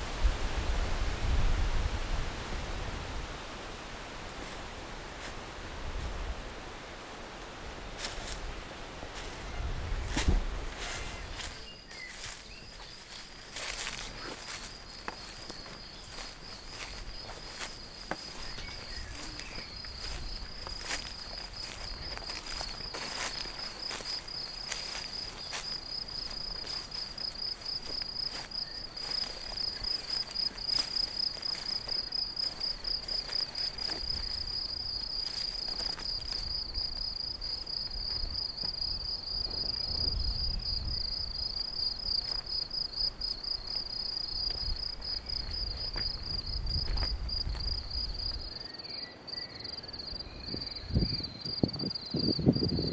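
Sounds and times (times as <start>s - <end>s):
cricket chirping: 10.1s - 52.9s.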